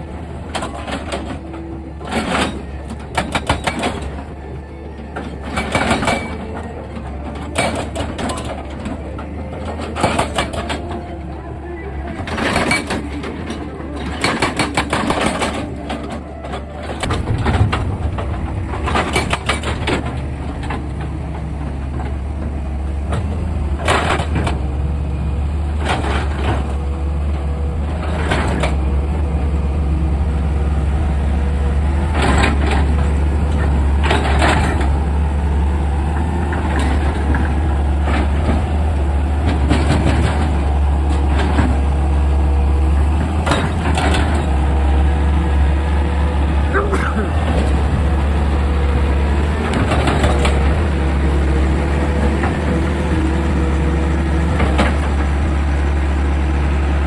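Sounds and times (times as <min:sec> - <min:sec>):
excavator diesel engine running: 0:00.0 - 0:57.0
sharp working noises: 0:00.0 - 0:57.0.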